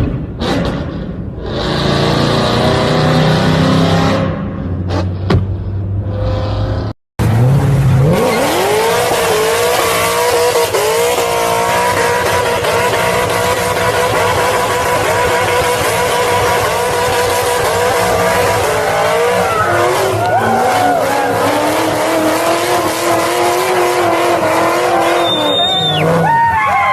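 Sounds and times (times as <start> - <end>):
car engine revving: 0.0 - 26.5.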